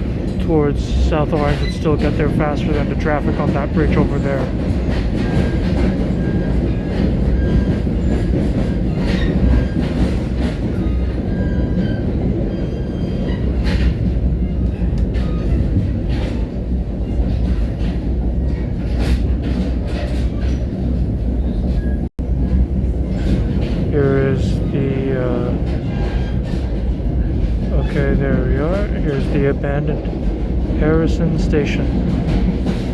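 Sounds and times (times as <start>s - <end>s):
wheels clicking over rails: 0.0s - 30.8s, 31.8s - 32.9s
train rumbling on track: 0.0s - 32.9s.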